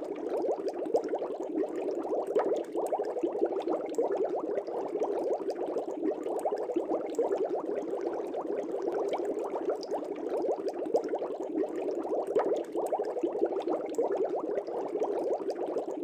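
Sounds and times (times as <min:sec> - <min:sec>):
air bubbles underwater: 0:00.0 - 0:16.0.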